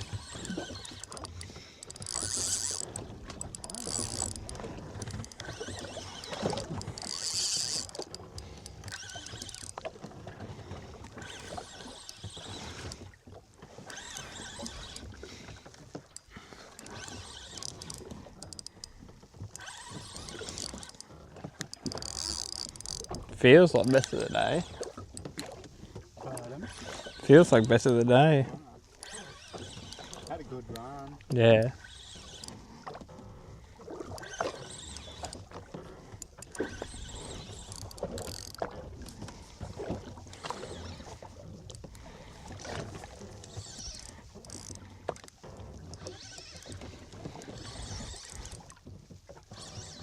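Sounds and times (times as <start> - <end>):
water sloshing against boat hull: 0.0 - 50.0.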